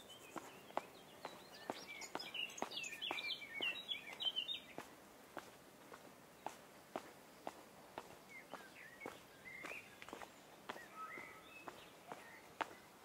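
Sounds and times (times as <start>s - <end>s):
songbird chirping and warbling: 0.0s - 4.9s, 6.4s - 13.0s
footsteps: 0.0s - 12.8s.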